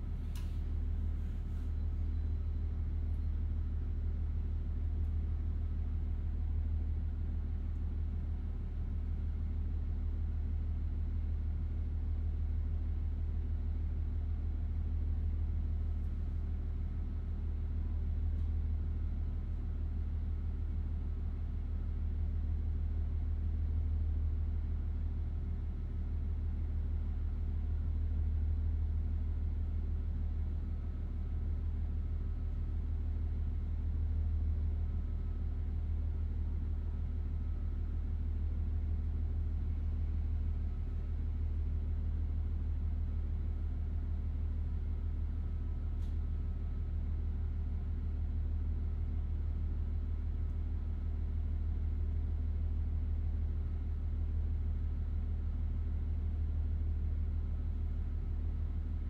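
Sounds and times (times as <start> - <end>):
diesel railcar engine idling: 0.0 - 59.0
faint steady hum: 0.0 - 59.0.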